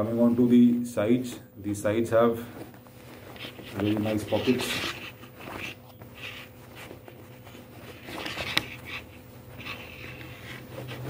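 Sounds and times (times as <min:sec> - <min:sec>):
fabric rustling: 0:00.0 - 0:01.4, 0:02.1 - 0:11.0
faint steady hum: 0:00.0 - 0:11.0.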